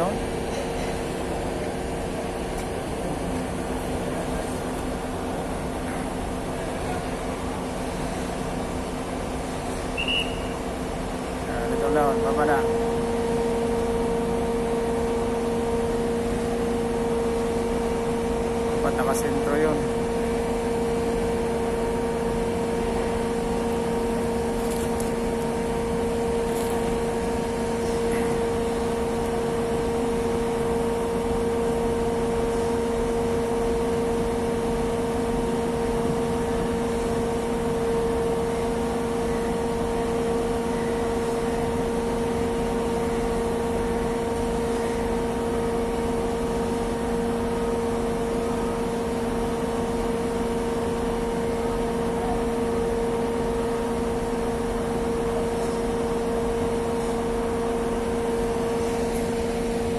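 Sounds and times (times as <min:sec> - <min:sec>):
heavy machinery droning: 0:00.0 - 0:59.9.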